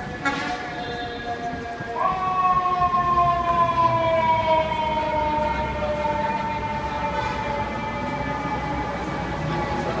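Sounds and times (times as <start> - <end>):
city traffic rumble: 0.0 - 10.0
fire truck siren wailing: 0.0 - 10.0.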